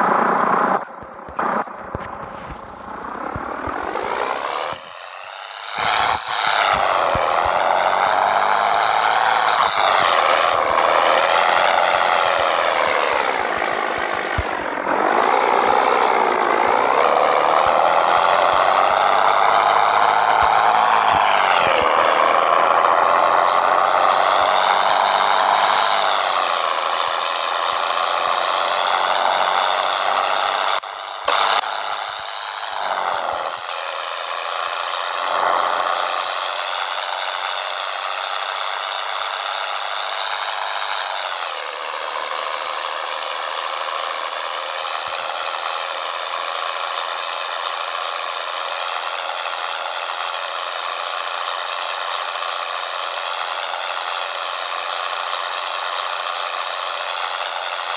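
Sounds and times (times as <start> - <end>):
diesel truck engine under load: 0.0 - 57.9.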